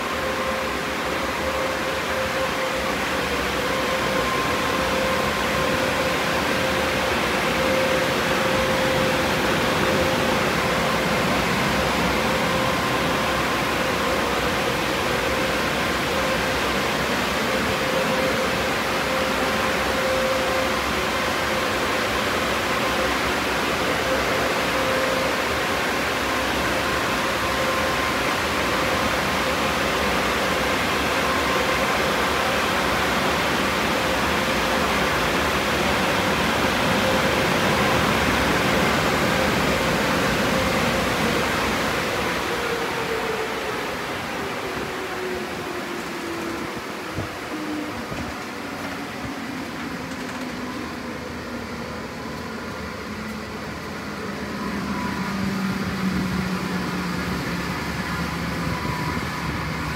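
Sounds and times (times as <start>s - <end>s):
blowers rushing air with whine: 0.0s - 59.9s.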